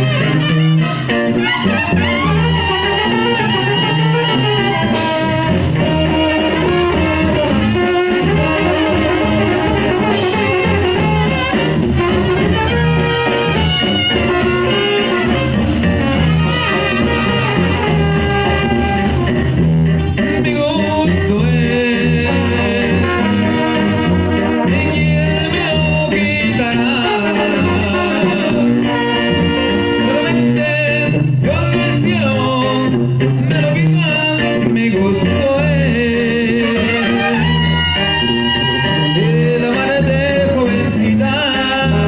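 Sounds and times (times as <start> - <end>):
trumpets and trombones: 0.0 - 32.3, 33.9 - 42.0
drums: 0.0 - 42.0
tuba bass line: 0.0 - 42.0.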